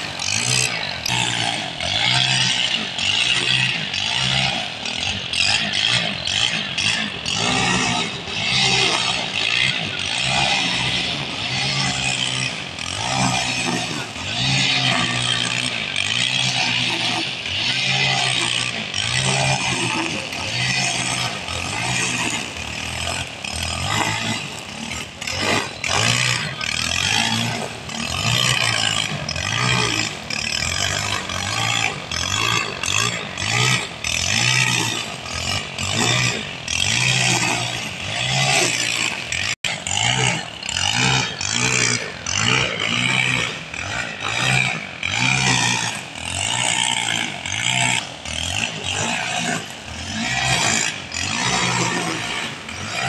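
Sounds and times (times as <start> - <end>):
brush cutter engine trimming grass: 0.0 - 53.0.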